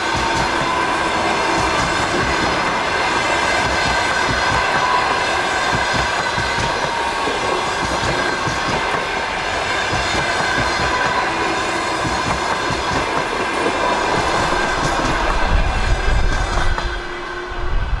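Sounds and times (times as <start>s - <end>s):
train wheels clattering: 0.0s - 17.2s.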